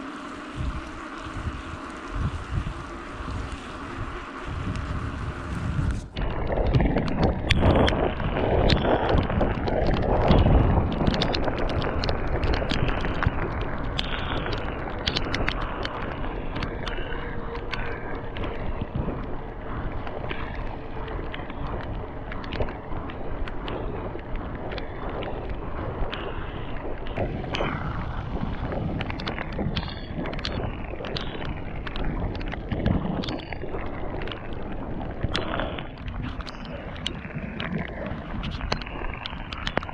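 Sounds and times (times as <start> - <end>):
bike tyres hissing on wet road: 0.0 - 6.7, 7.3 - 39.9
small clicks and rattles: 0.0 - 39.9
wind buffeting microphone: 0.0 - 39.9.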